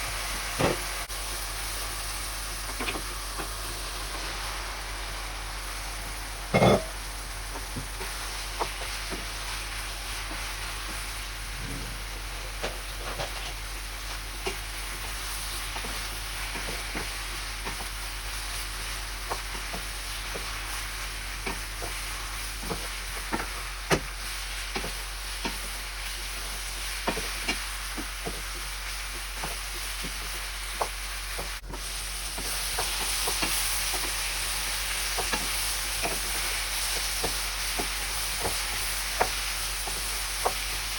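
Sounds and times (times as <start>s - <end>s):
vegetables sizzling in a pan: 0.0s - 40.9s.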